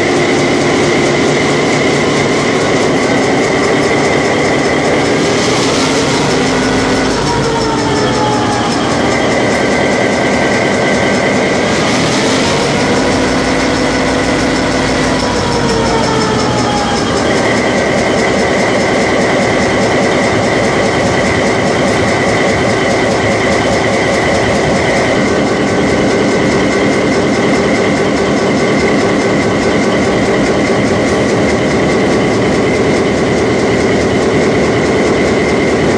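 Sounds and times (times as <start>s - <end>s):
locomotive diesel engine running: 0.0s - 35.9s
steady high whine: 0.0s - 35.9s.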